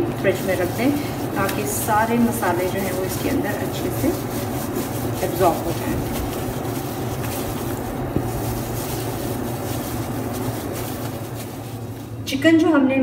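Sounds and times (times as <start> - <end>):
plastic glove rustling: 0.0 - 12.4
steady low hum: 0.0 - 13.0.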